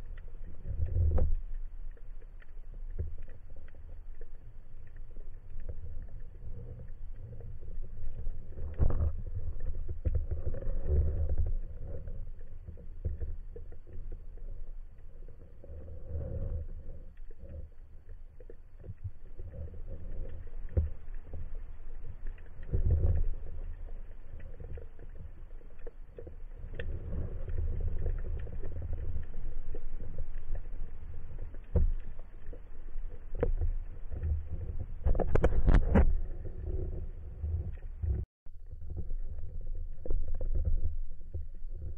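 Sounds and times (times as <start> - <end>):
clicks and knocks underwater: 0.0 - 41.9
underwater low rumble: 0.0 - 41.9.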